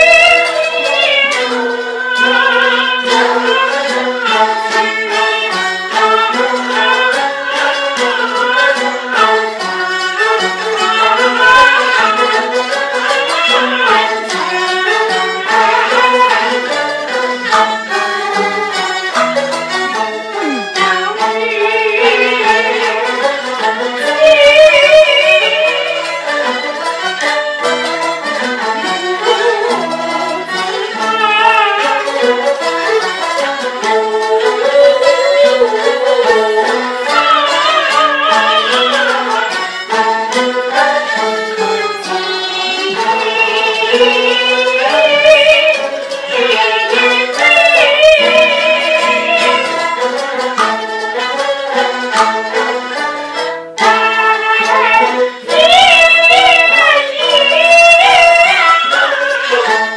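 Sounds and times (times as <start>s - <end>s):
bowed fiddle melody with vibrato: 0.0s - 59.9s.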